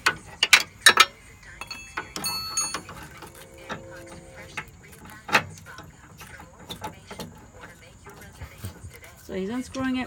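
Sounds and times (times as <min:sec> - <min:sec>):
metal tools clinking: 0:00.0 - 0:08.3.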